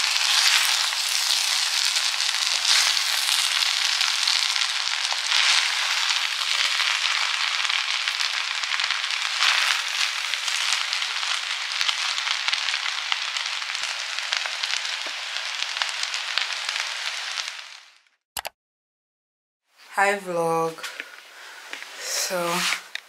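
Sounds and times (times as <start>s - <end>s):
rice sizzling in a hot pan: 0.0s - 18.0s, 20.9s - 23.0s.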